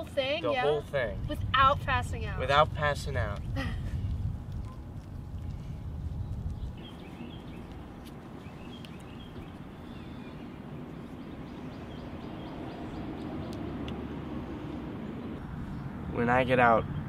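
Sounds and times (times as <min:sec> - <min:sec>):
steady low rumble: 0:00.0 - 0:17.0
small birds chirping: 0:03.2 - 0:17.0.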